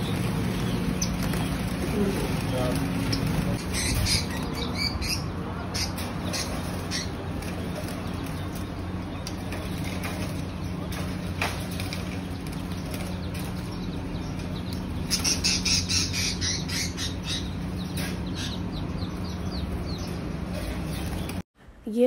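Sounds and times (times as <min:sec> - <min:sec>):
caged birds chirping and squawking: 0:00.0 - 0:21.4
steady low hum: 0:00.0 - 0:21.9.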